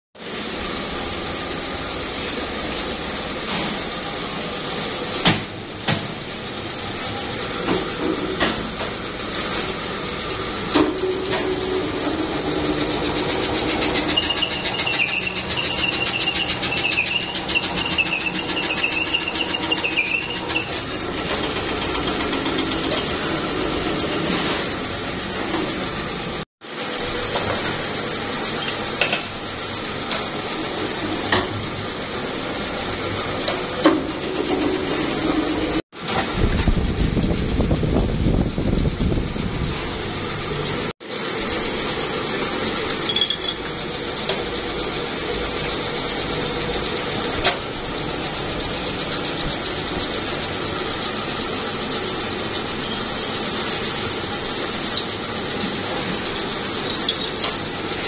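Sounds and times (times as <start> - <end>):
machinery humming: 0.2 - 58.0.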